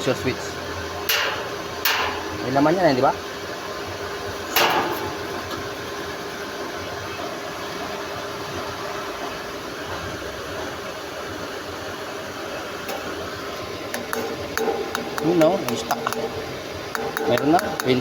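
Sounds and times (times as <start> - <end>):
electric water pump running: 0.0 - 18.0.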